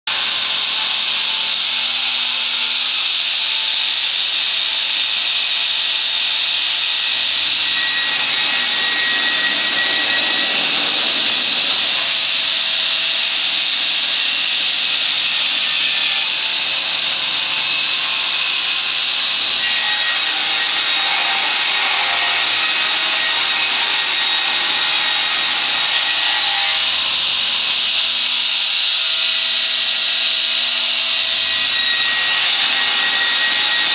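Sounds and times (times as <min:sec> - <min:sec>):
circular saw blade cutting log: 0:00.1 - 0:33.9.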